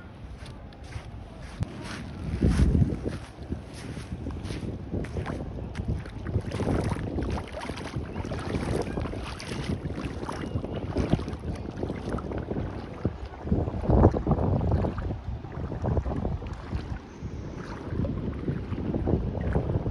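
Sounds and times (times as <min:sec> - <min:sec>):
waves washing at shore: 0:00.0 - 0:19.9
wind rumbling on microphone: 0:00.0 - 0:19.9.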